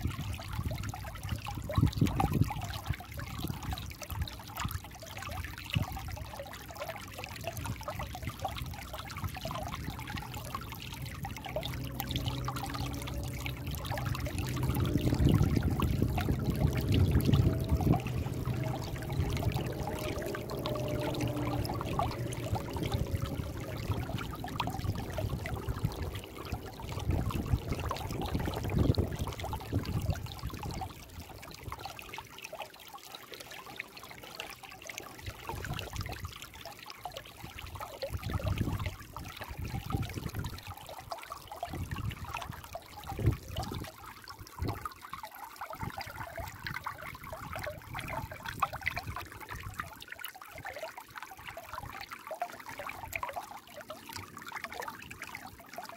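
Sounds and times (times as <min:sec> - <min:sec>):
stream water trickling over rocks: 0:00.0 - 0:55.9.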